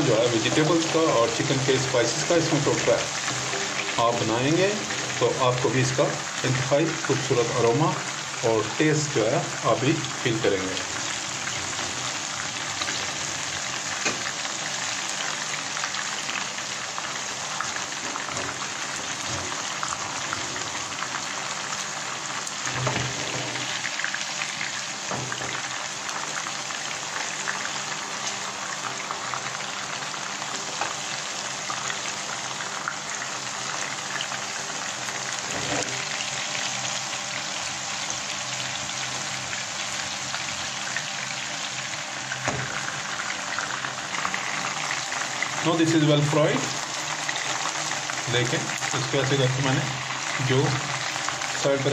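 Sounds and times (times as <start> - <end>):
food sizzling in hot oil: 0.0 - 51.9.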